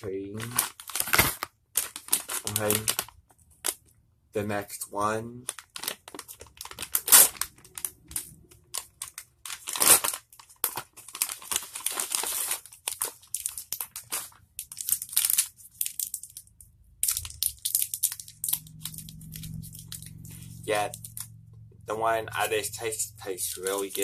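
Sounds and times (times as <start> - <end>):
plastic wrapper crinkling and tearing: 0.2 - 4.0, 5.4 - 21.4, 22.0 - 24.0.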